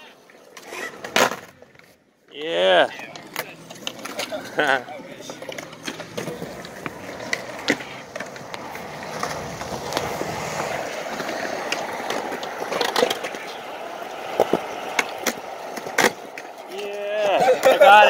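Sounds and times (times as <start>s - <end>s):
skateboard wheels rolling on concrete: 0.0s - 18.0s
skateboard clacking on concrete: 0.5s - 18.0s.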